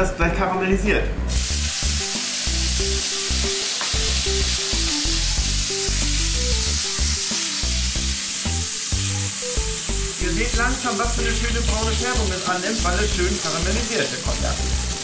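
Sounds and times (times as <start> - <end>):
background music: 0.0 - 15.0
liquid sizzling in a pan: 1.3 - 15.0.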